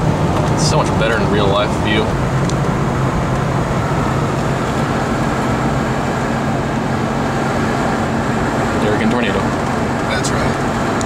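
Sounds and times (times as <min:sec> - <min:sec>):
car engine hum: 0:00.0 - 0:11.0.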